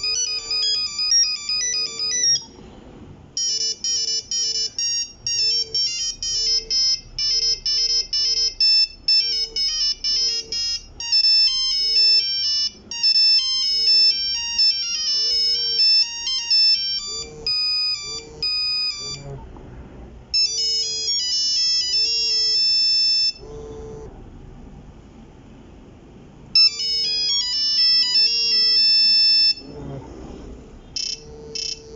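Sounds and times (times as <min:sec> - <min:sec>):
monophonic ringtone melodies: 0:00.0 - 0:02.6, 0:03.4 - 0:19.4, 0:20.3 - 0:23.4, 0:26.6 - 0:29.6, 0:31.0 - 0:31.9.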